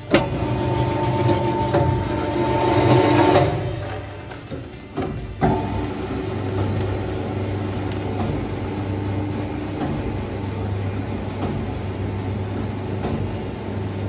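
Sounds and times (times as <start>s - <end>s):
meat grinder humming: 0.0s - 14.0s.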